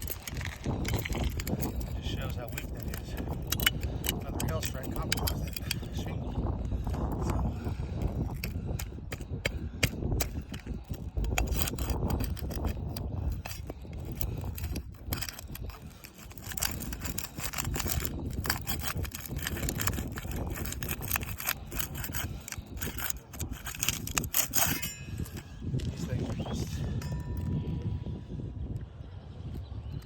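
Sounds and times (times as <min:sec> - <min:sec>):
putty knife scraping shingles: 0:00.0 - 0:06.0, 0:06.8 - 0:27.3.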